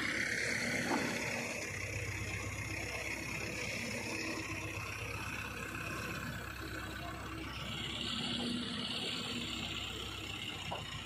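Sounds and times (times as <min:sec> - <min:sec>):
crane diesel engine idling: 0:00.0 - 0:11.0.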